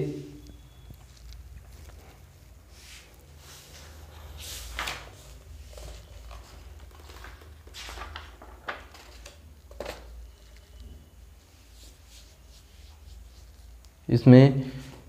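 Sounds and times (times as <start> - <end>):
rustling and scraping handling: 0.4 - 14.0.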